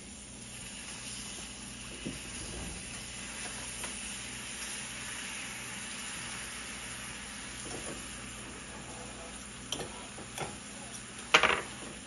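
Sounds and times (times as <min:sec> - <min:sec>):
caramel sauce sizzling in a pan: 0:00.0 - 0:12.0.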